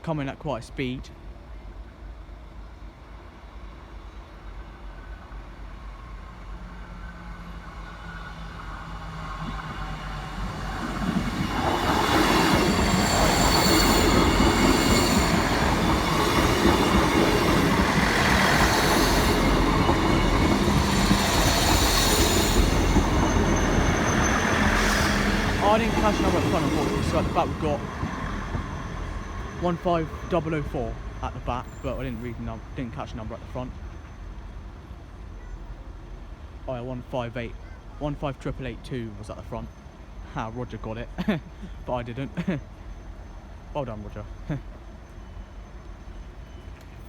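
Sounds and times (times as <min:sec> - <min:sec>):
diesel train passing: 0:00.0 - 0:47.0
wheel and rail rumble: 0:01.0 - 0:47.0.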